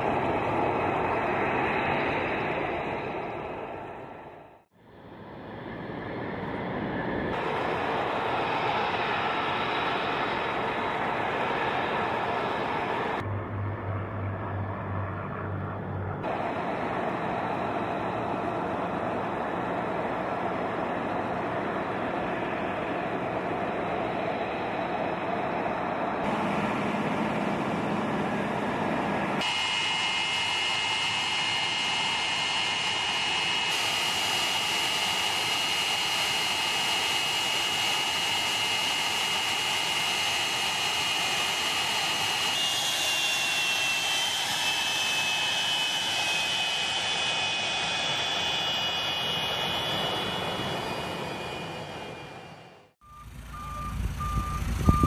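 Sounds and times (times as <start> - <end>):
jet engine roar and whine: 0.0 - 55.0.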